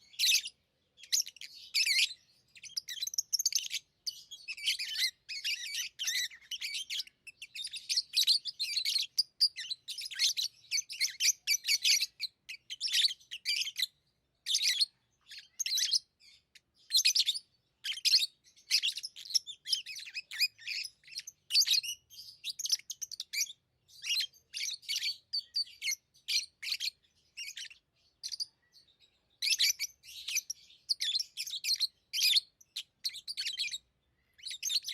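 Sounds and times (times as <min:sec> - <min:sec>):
lovebirds chirping: 0:00.0 - 0:34.9.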